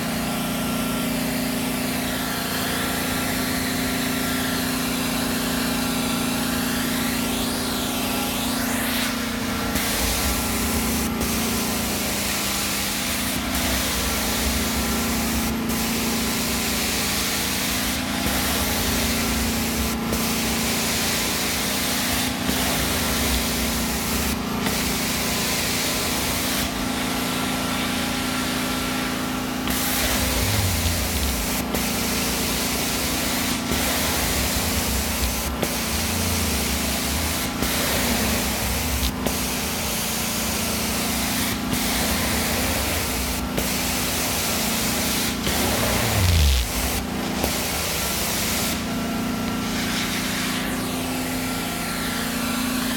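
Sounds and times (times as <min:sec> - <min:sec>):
carpet cleaner spray and vacuum hiss: 0:00.0 - 0:52.9
machine hum: 0:06.7 - 0:49.7.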